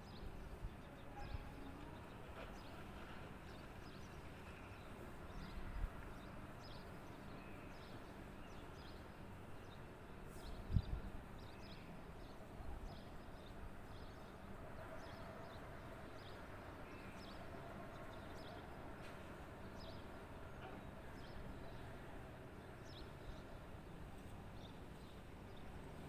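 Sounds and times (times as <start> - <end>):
outdoor ambience: 0.0 - 26.0.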